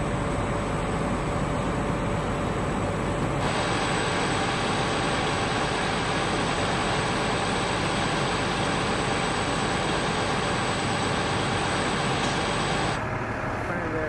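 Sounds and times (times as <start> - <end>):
heavy engine idling: 0.0 - 14.0.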